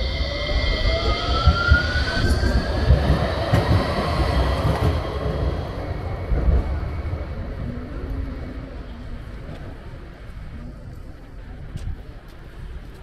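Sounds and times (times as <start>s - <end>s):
tram motor whine: 0.0s - 11.4s
tram wheels rumbling on rails: 0.0s - 13.0s.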